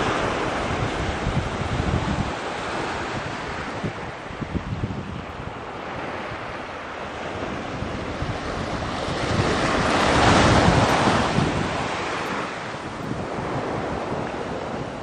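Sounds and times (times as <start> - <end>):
waves at shoreline: 0.0 - 15.0
wind on microphone: 0.0 - 15.0.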